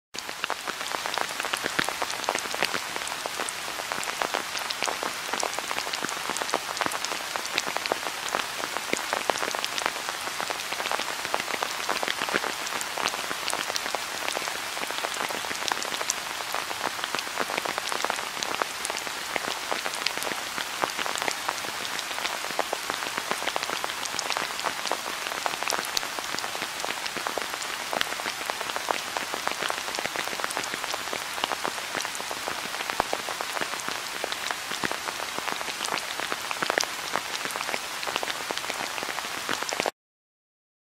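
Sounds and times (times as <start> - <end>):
steady rain hiss: 0.2 - 39.9.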